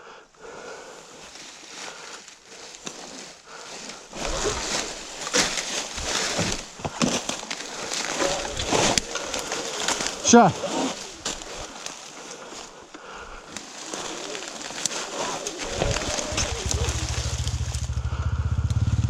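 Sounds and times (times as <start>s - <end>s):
twigs and dry leaves crunching: 0.5s - 18.1s.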